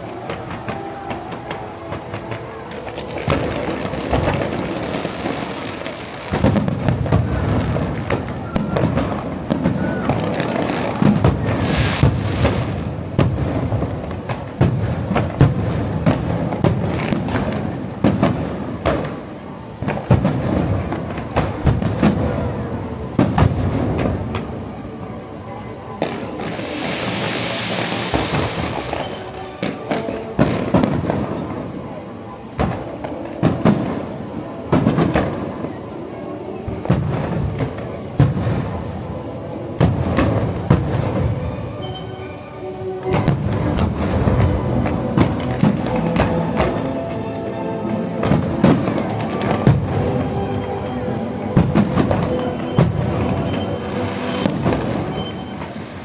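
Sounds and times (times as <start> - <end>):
fireworks bursting: 0.0 - 56.0
music: 0.0 - 56.0.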